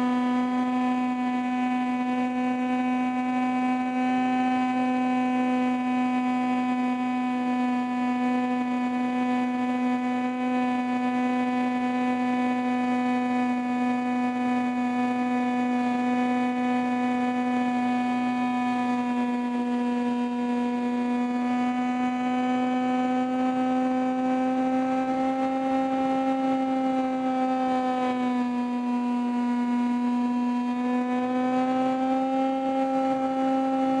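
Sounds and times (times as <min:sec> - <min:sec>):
model airplane motor droning: 0:00.0 - 0:34.0.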